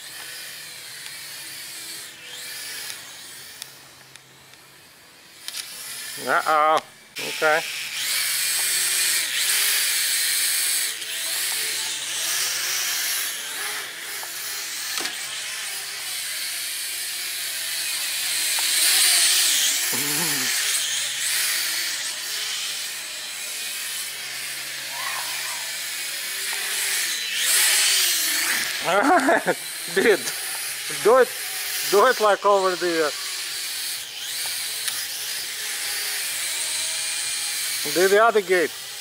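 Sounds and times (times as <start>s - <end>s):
drone propellers buzzing whine: 0.0s - 39.0s.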